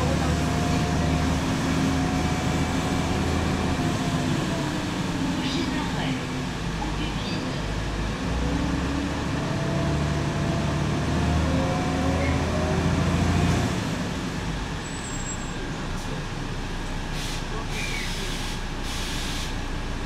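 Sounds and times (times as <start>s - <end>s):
bus diesel engine under load: 0.0s - 20.0s.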